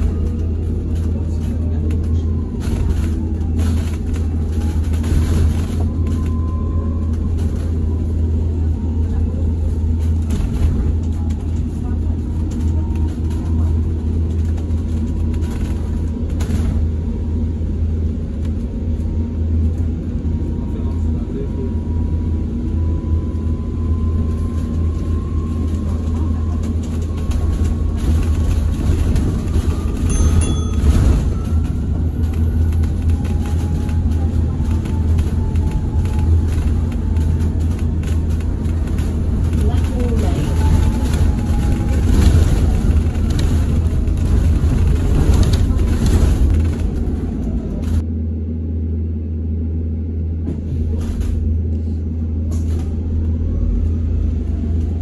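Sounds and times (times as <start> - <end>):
bus road rumble: 0.0 - 55.0.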